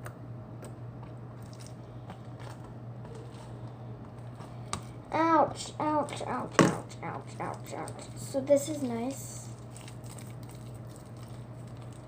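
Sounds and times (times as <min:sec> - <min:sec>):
slime squelching: 0:01.0 - 0:12.0.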